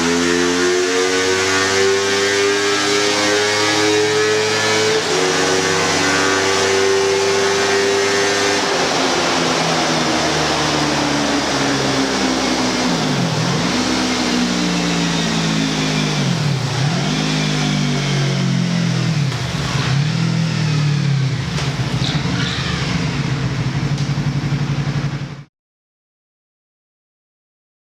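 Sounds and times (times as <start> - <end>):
motorcycle engine revving: 0.0 - 25.5.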